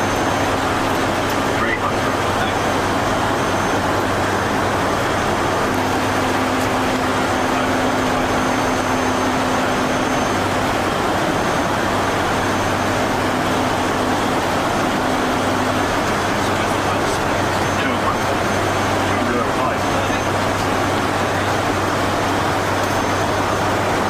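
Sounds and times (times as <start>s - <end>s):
turboprop engines droning: 0.0s - 24.0s.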